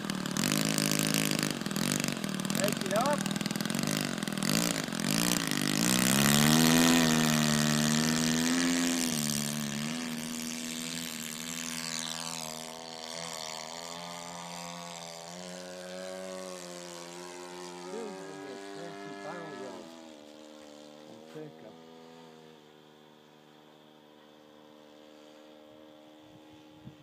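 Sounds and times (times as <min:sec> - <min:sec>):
model airplane engine buzzing: 0:00.0 - 0:27.0.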